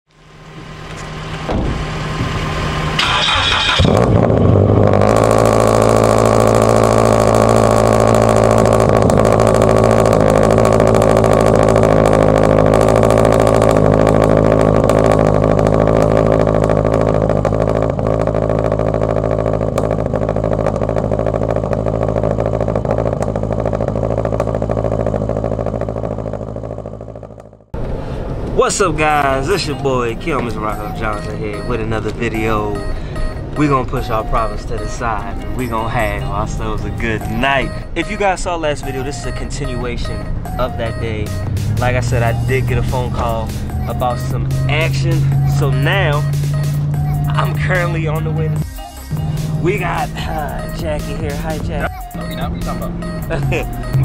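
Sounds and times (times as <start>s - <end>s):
car engine starting and idling: 0.1s - 54.0s.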